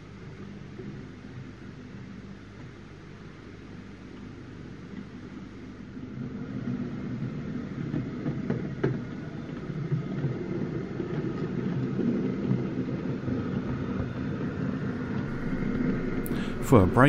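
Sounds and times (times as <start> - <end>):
model train motor and wheel rumble: 0.0 - 17.0.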